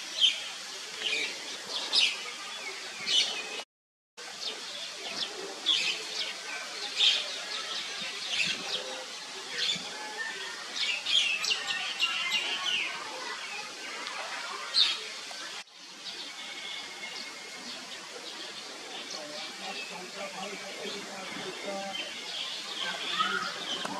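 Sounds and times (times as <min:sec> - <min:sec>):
outdoor ambience: 0:04.2 - 0:23.9.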